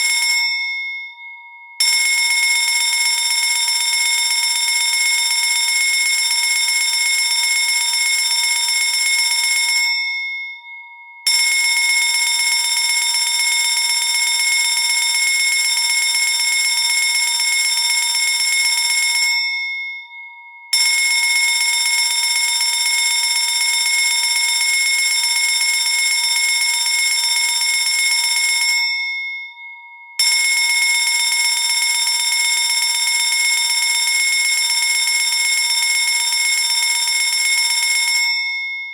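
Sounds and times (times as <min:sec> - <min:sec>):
fire alarm bell ringing: 0:00.0 - 0:38.9.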